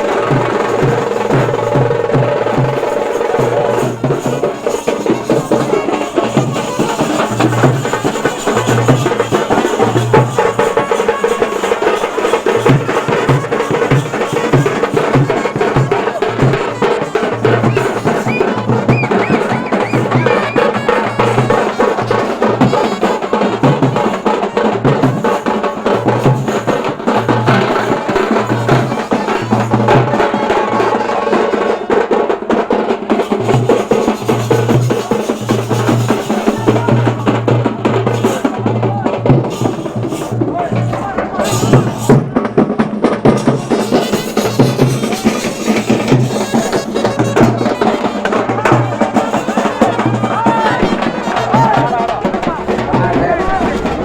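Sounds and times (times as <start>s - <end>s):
fast percussion-driven music: 0.0s - 54.0s.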